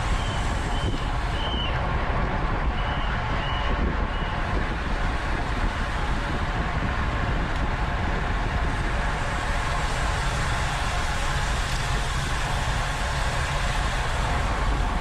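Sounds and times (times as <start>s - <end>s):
bicycle road noise: 0.0s - 15.0s
wind buffeting microphone: 0.0s - 15.0s.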